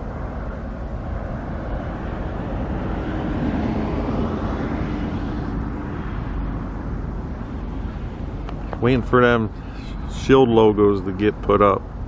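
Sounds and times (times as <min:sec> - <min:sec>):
vehicle passing by: 0:00.0 - 0:11.8.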